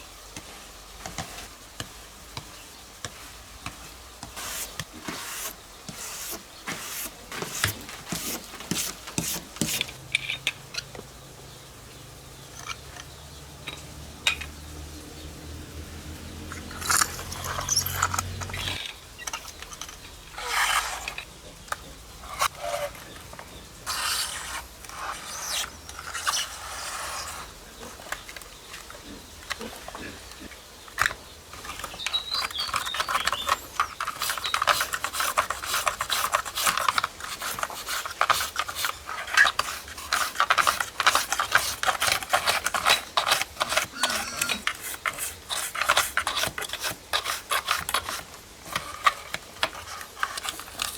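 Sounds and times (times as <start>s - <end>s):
scraping and rubbing: 3.0s - 11.0s, 16.3s - 50.9s.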